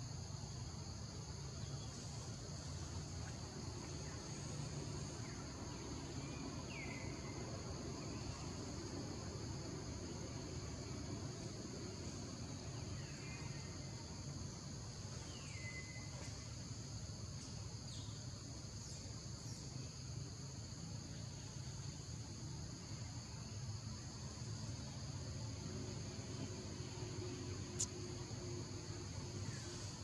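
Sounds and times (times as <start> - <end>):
insects chorus: 0.0 - 30.0.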